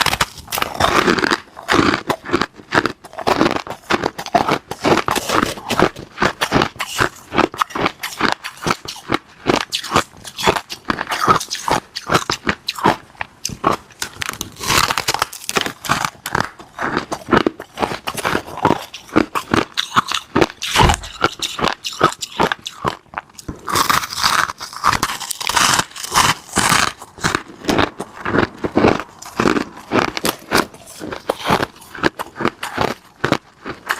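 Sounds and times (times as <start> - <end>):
ice crunching while chewed: 0.0 - 33.9.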